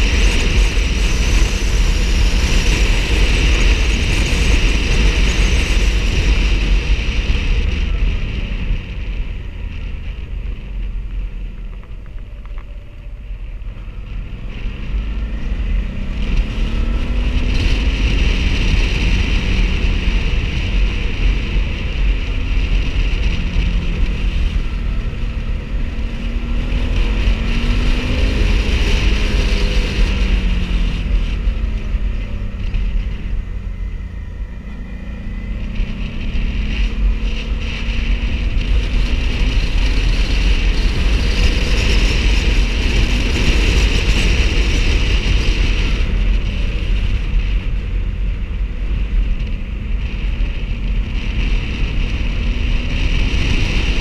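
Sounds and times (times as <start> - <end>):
motorcycle engine: 0.0 - 54.0
wind noise on microphone: 0.0 - 54.0.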